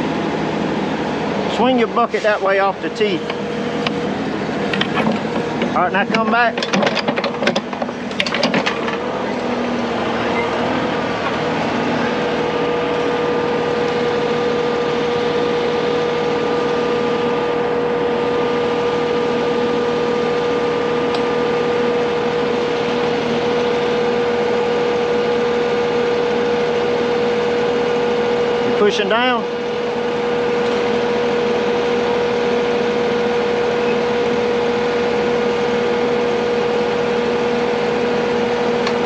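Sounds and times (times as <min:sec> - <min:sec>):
diesel engine under hydraulic load: 0:00.0 - 0:39.0
steady whine: 0:00.0 - 0:39.0.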